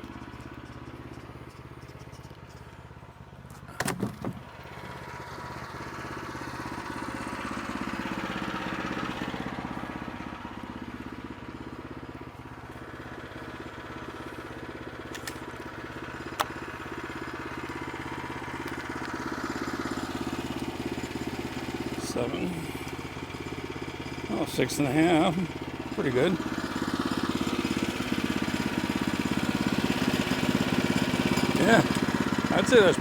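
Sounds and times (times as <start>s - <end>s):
sawmill gas engine running: 0.0s - 33.0s.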